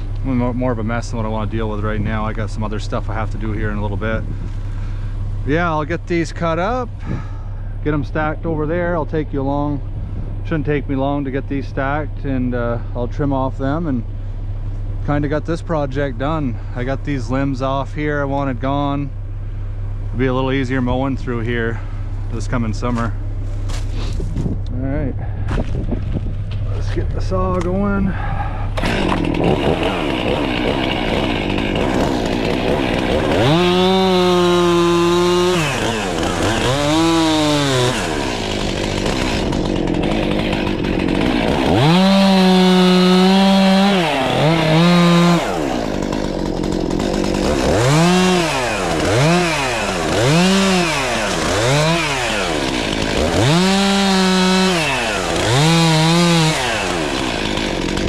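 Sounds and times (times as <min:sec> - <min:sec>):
chainsaw idling and revving: 0:00.0 - 0:24.2, 0:26.0 - 0:58.0.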